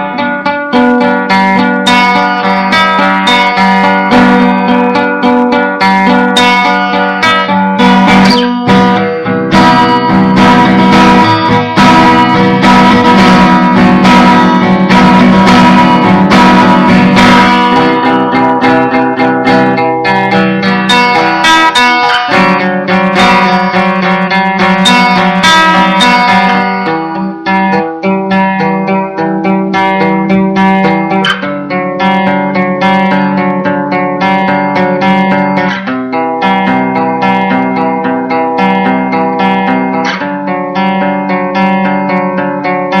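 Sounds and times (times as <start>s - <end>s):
acoustic guitar strummed and picked: 0.0s - 43.0s.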